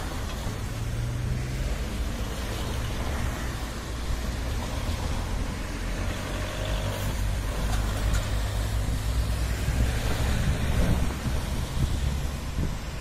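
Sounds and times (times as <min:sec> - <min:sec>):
vehicles driving over crossing: 0:00.0 - 0:13.0
wind rumbling on microphone: 0:00.0 - 0:13.0.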